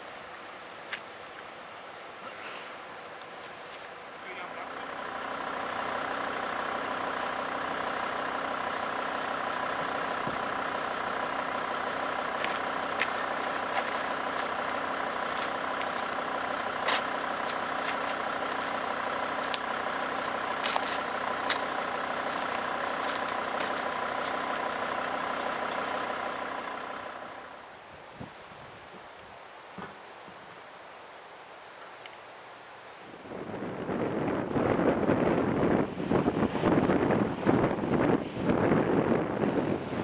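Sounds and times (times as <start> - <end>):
vehicle engine idling: 0.0 - 32.0, 33.2 - 40.0.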